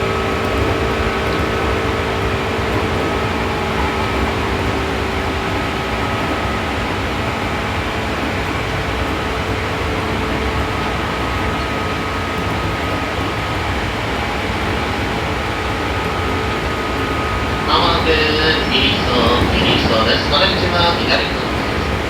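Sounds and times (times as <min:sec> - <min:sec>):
faint train whine: 0:00.0 - 0:22.0
train wheels rumbling on rail: 0:00.0 - 0:22.0.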